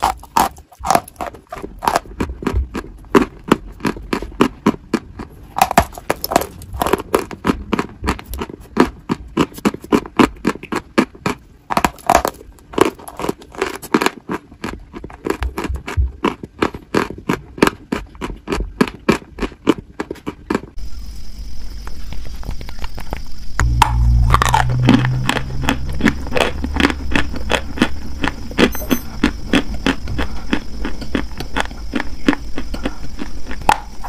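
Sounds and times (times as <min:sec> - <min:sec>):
chalky block crunching when chewed: 0:00.0 - 0:20.8, 0:22.6 - 0:34.0.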